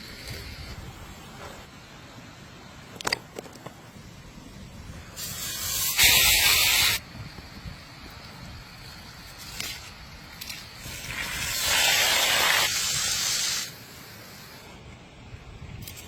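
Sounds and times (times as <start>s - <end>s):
steady hiss: 0.0s - 2.9s, 3.7s - 16.0s.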